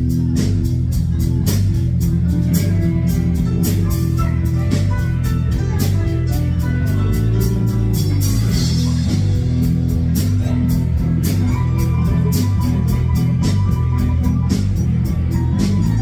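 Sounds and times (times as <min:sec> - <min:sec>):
bass guitar: 0:00.0 - 0:16.0
drums: 0:00.0 - 0:16.0
electric guitars: 0:00.0 - 0:16.0.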